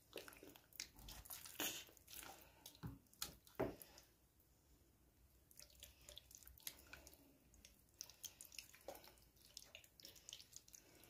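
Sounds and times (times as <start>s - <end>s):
hands squishing marinade into chicken: 0.0s - 4.2s, 5.3s - 11.0s.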